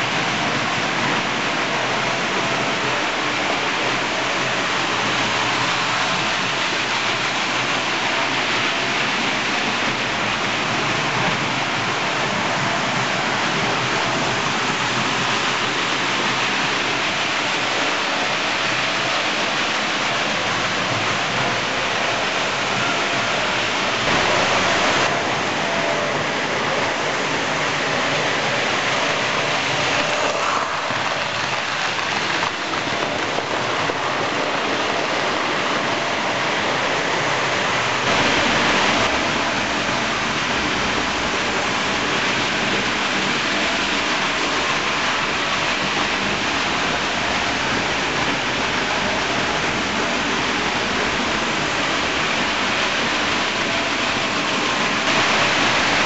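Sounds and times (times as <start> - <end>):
model trains rattling on track: 0.0 - 56.0.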